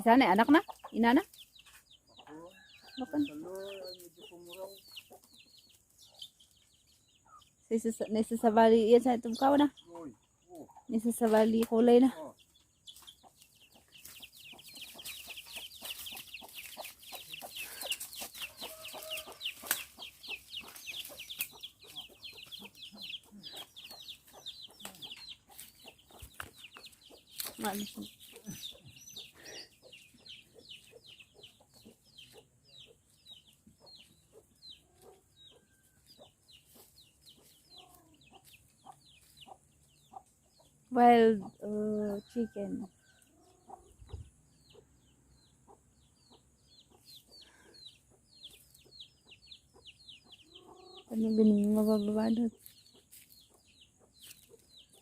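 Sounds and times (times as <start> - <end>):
chickens calling: 0.0 - 55.0.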